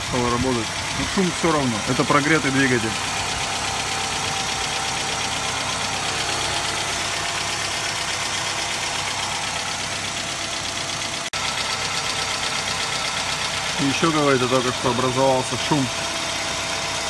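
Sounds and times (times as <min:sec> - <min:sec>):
car engine idling with knock: 0:00.0 - 0:17.0.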